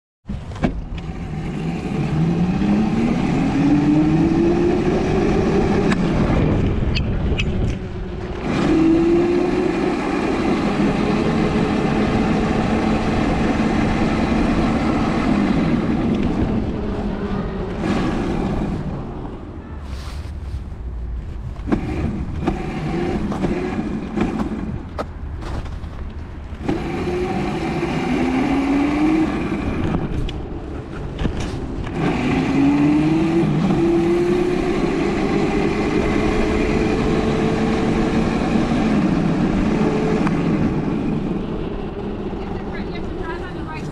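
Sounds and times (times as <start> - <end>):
wind noise on microphone: 0.3 - 43.9.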